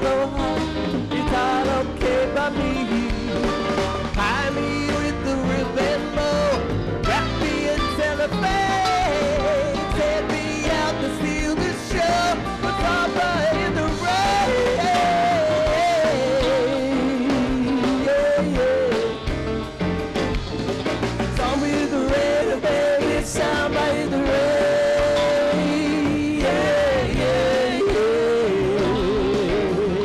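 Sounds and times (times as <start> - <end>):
live rock band playing samba: 0.0 - 30.0.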